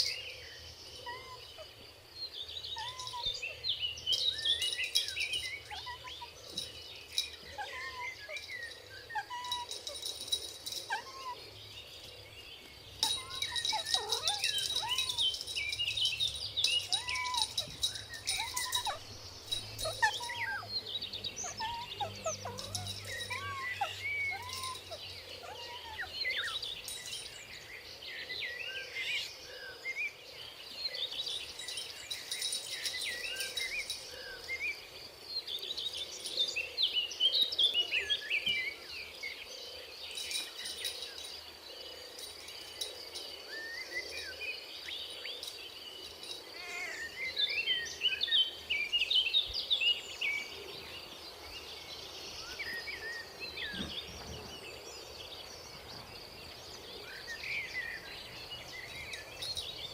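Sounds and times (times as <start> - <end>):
high insect trill: 0.0 - 28.4, 30.7 - 38.3, 39.0 - 59.9
small birds chirping: 0.0 - 59.9.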